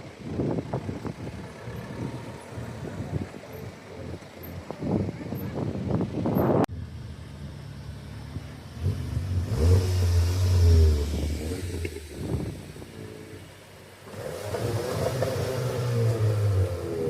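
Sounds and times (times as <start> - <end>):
car engines revving driving past: 1.0 - 6.0, 6.9 - 17.0.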